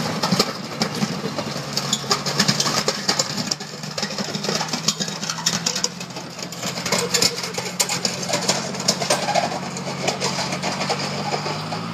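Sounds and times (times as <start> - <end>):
gravel crackling under blade: 0.0 - 11.9
tractor diesel engine under load: 0.0 - 11.9.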